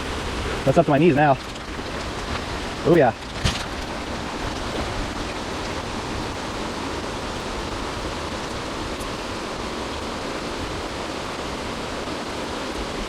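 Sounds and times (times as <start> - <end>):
creek water flowing: 0.0 - 13.0
heavy rain falling: 0.0 - 13.0.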